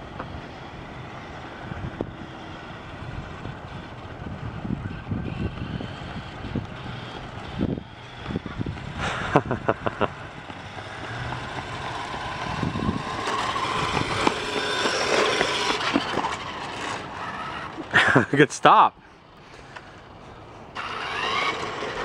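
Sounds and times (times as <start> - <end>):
toy truck electric motor: 0.0 - 18.2, 19.6 - 22.0.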